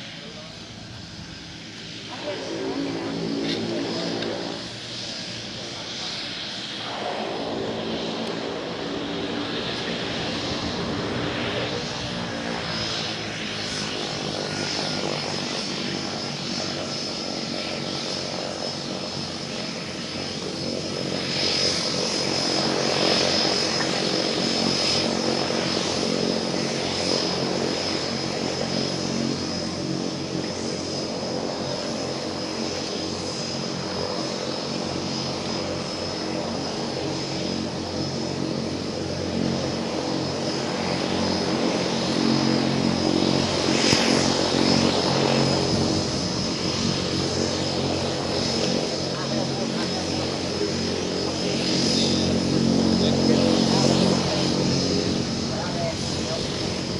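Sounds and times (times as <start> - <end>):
propeller airplane engine: 0.0 - 56.9.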